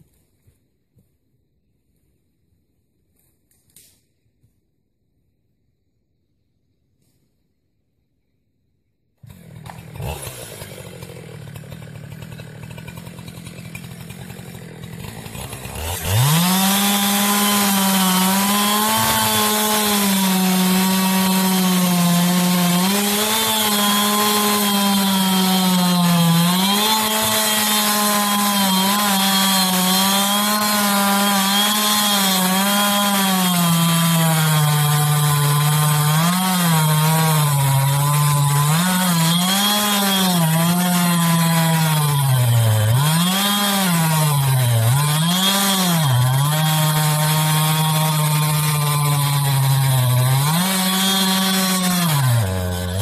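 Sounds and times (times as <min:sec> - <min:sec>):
chainsaw cutting wood: 0:09.2 - 0:53.0.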